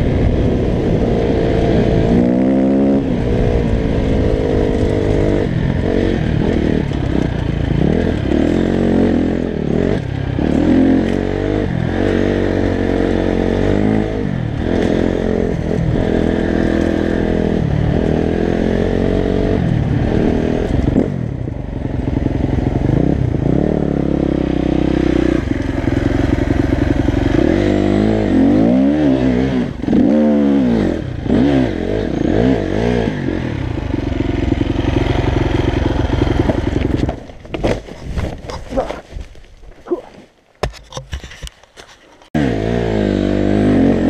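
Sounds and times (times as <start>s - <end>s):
motorcycle engine revving: 0.0s - 37.5s, 42.2s - 44.0s.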